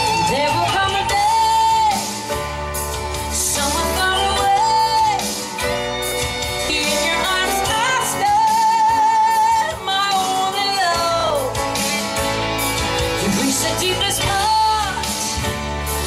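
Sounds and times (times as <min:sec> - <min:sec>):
woman singing into a microphone: 0:00.0 - 0:11.9, 0:13.2 - 0:16.0
backing music with bass drums guitar: 0:00.0 - 0:16.0.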